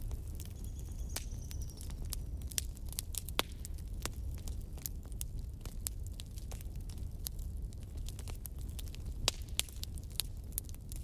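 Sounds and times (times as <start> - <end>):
fire crackling and popping: 0.0 - 11.0
fire flames rumbling: 0.0 - 11.0.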